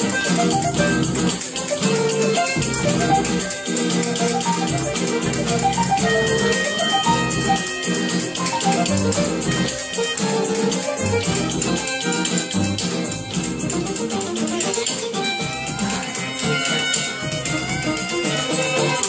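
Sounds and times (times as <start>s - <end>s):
guitar notes: 0.0s - 19.0s
hand shaker rhythm: 0.0s - 19.0s
plucked upright bass: 0.0s - 19.0s.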